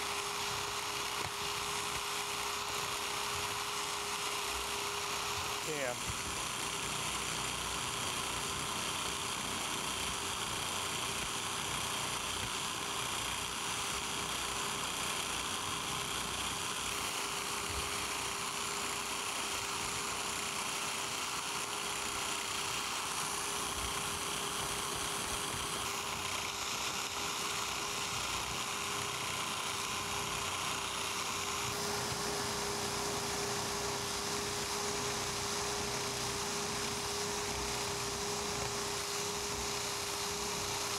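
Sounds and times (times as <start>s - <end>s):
constant hum: 0.0s - 40.9s
power scraper blade strokes on metal: 0.0s - 40.9s.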